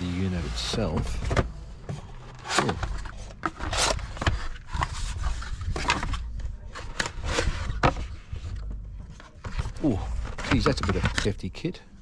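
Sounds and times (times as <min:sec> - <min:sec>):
cardboard box scraping and rustling: 0:00.0 - 0:11.3.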